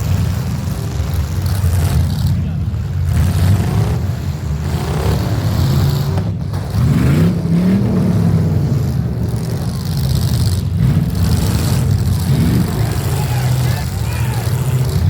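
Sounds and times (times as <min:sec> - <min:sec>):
car engines running and revving: 0:00.0 - 0:15.0.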